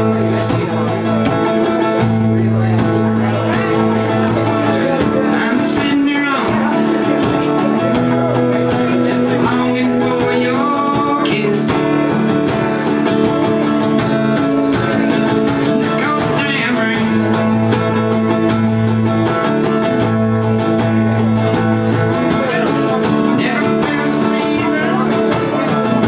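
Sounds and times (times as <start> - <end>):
man singing: 0.0 - 18.7, 21.7 - 26.0
acoustic guitar strumming: 0.0 - 26.0.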